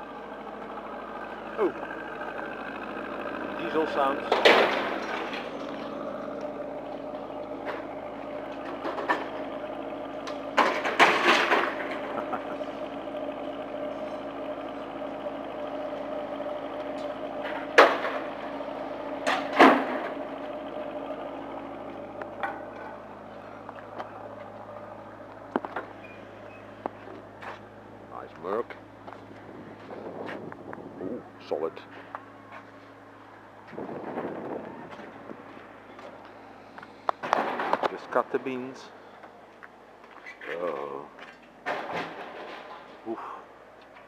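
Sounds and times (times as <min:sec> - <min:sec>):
excavator diesel engine idling: 0:00.0 - 0:44.0.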